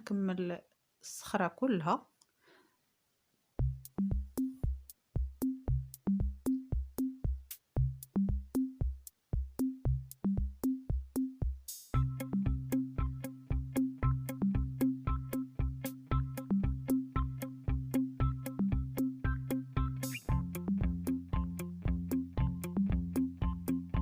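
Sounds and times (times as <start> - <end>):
drum machine beat: 3.6 - 24.0.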